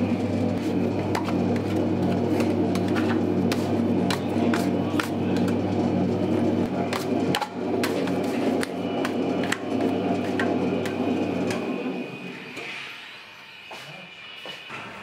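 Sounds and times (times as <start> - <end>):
low hum: 0.0 - 13.2.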